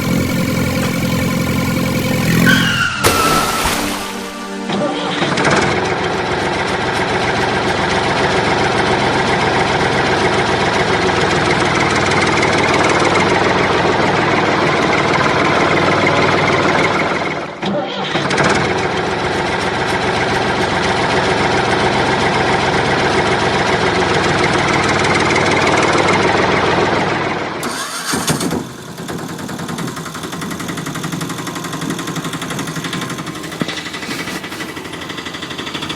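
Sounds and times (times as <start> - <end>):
vehicle engine idling: 0.0 - 3.2, 5.2 - 17.6, 18.2 - 35.9.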